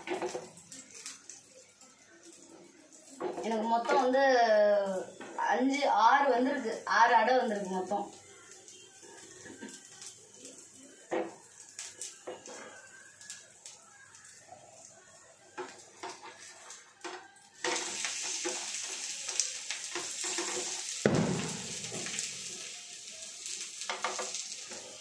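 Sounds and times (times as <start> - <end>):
food sizzling in frying pan: 0.0 - 25.0.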